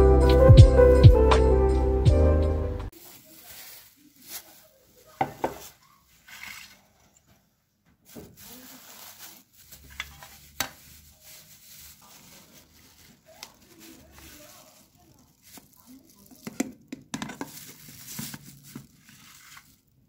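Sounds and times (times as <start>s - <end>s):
biscuits rustling and scraping: 2.9s - 20.0s.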